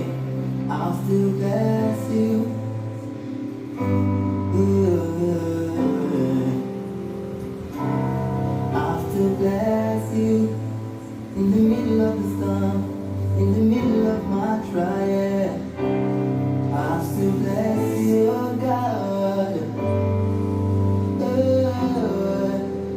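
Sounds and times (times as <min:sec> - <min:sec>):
person singing melody: 0:00.0 - 0:22.9
worship music: 0:00.0 - 0:22.9.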